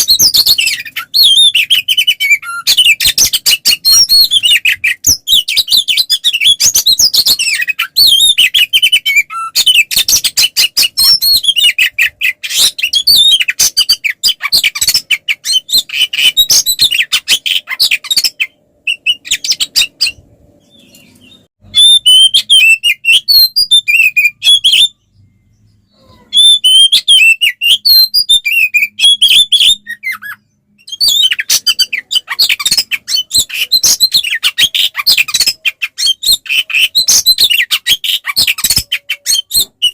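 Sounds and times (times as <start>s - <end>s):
bird singing whistles and chatter: 0.0s - 25.3s, 25.9s - 39.9s.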